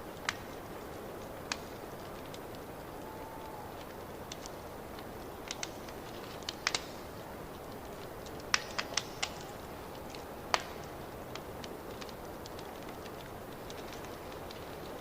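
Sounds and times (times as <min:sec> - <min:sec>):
fire sharp pops: 0:00.0 - 0:15.0
wood fire crackling: 0:00.0 - 0:15.0.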